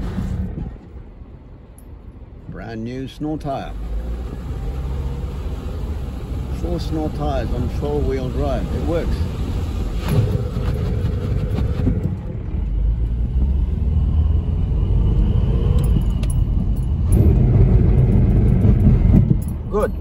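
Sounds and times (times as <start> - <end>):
car engine noise: 0.0 - 20.0
road and tyre rumble: 0.0 - 20.0.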